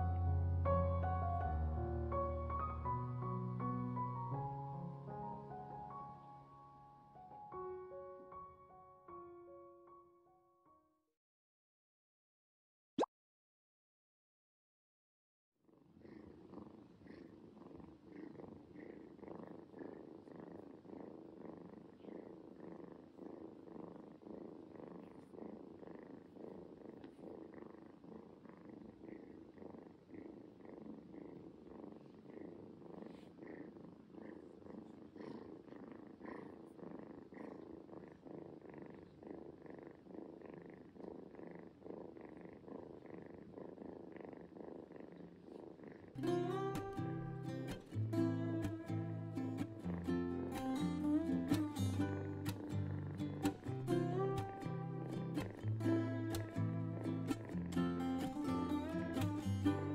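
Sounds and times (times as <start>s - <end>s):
kitten purring: 0.0s - 9.4s, 15.6s - 59.9s.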